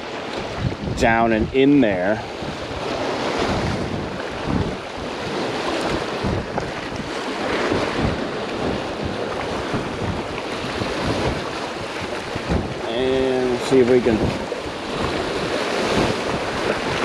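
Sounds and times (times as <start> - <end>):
surf splashing on rocks: 0.0 - 17.0
wind buffeting microphone: 0.0 - 17.0.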